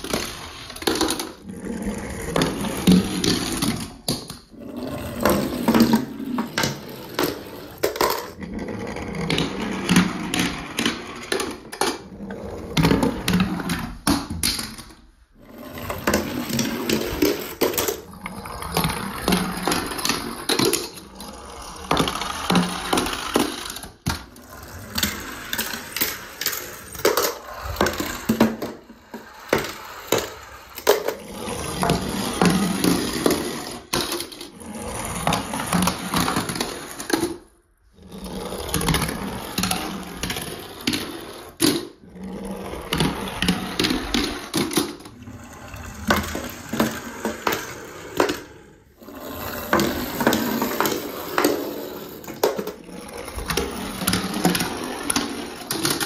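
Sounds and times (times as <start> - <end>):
toy cars rolling down wooden slide: 0.0 - 56.0.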